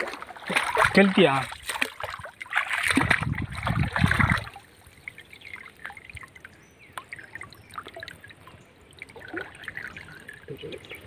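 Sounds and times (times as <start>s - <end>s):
water dripping: 0.0s - 11.0s
water sloshing and trickling: 0.0s - 11.0s.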